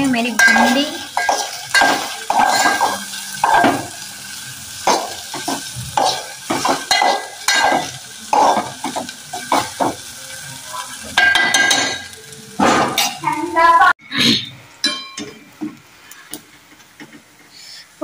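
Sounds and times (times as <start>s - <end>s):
okra sizzling: 0.0s - 18.0s.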